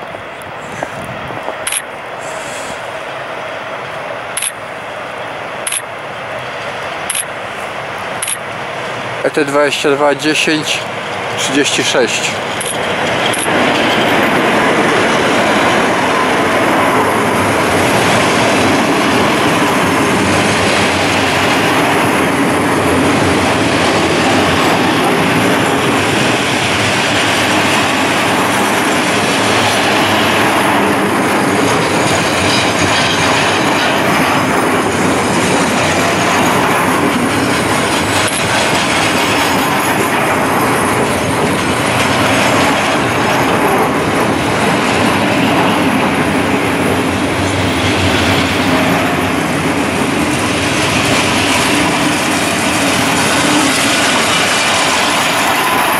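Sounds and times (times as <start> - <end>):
train wheels running over rails: 0.0 - 55.9.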